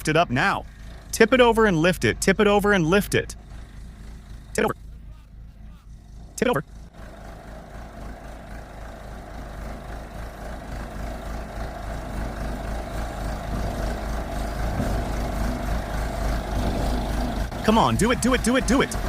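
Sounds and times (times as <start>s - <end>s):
heavy machine engine under load: 0.0s - 19.0s.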